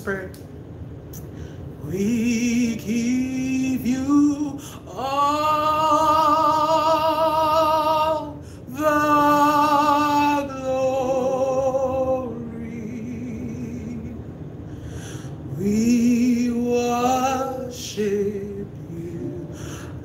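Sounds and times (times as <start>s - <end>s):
person singing with vibrato: 1.8s - 14.2s, 15.4s - 20.0s.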